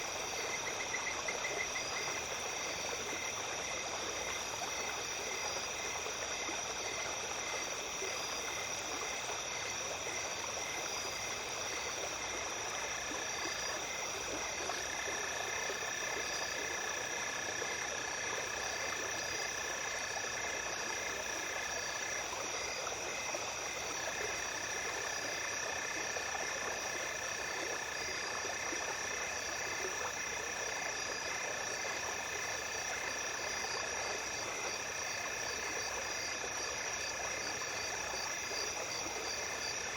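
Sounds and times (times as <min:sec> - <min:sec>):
low continuous insect trill: 0:00.0 - 0:39.9
stream flowing: 0:00.0 - 0:39.9.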